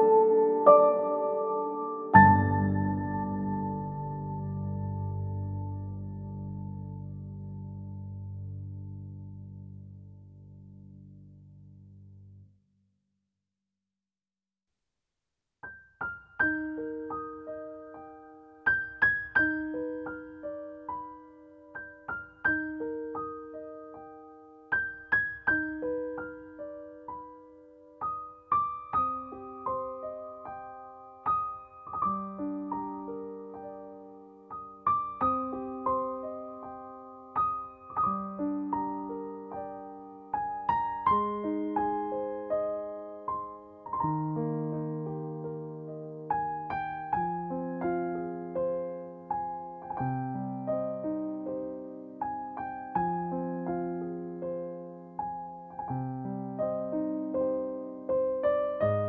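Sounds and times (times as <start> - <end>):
slow piano melody: 0.0 - 12.5, 15.6 - 59.0.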